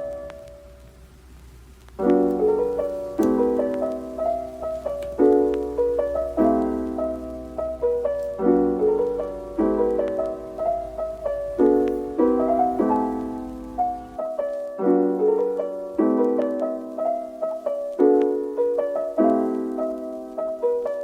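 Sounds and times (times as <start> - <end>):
gentle solo piano piece: 0.0 - 0.9, 2.0 - 21.0.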